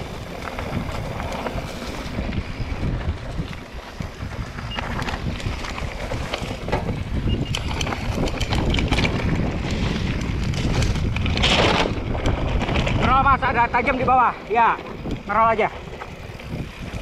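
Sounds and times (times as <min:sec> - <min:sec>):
bike clicks and rattles: 0:00.0 - 0:17.0
wind on microphone: 0:00.0 - 0:17.0.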